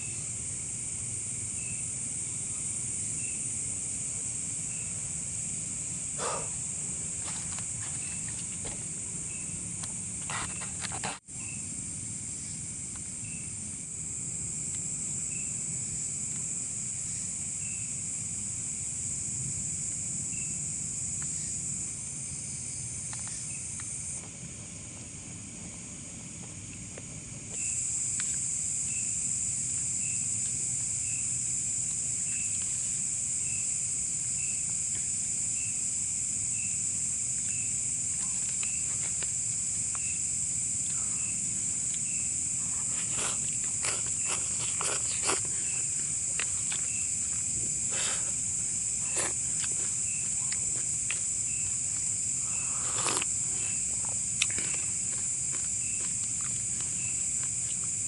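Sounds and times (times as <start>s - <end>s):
high-pitched insect buzz: 0.0s - 24.3s, 27.5s - 58.0s
insect chirping: 0.0s - 58.0s.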